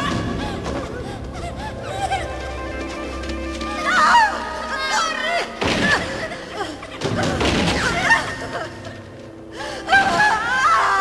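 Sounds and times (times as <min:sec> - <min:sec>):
dramatic film music: 0:00.0 - 0:11.0.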